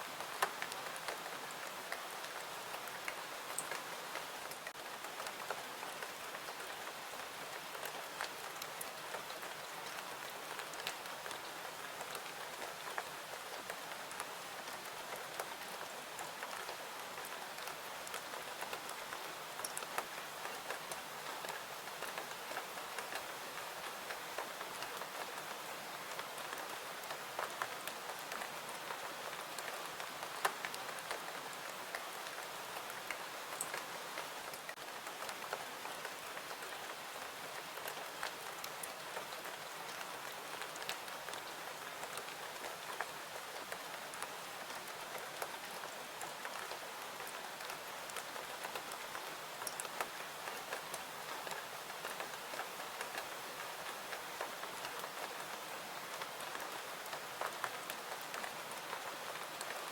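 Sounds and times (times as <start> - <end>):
small sharp rain ticks: 0.0 - 59.9
steady rain: 0.0 - 59.9.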